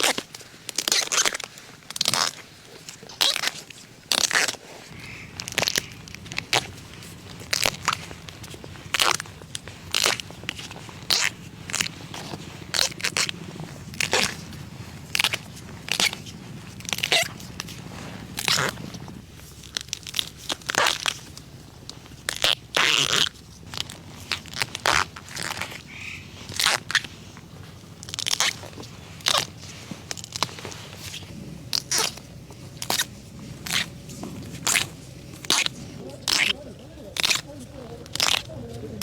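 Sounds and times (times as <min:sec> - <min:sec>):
dry bamboo leaves snapping: 0:00.0 - 0:39.0.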